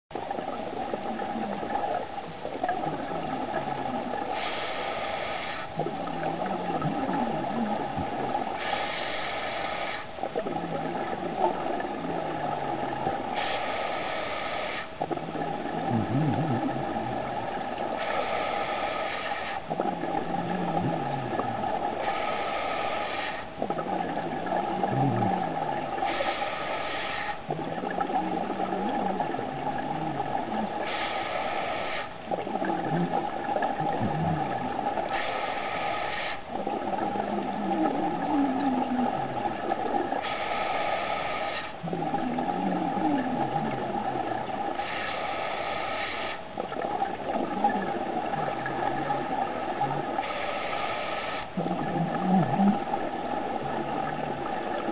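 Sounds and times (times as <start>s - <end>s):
bubbling exhale: 0.2s - 54.9s
diver inhaling through regulator: 2.7s - 10.2s, 15.8s - 54.9s.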